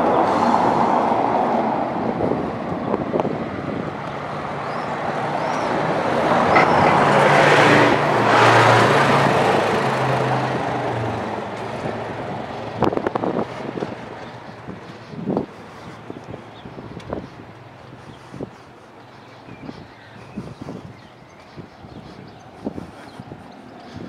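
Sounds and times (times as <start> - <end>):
motor vehicle passing by: 0.0 - 24.0.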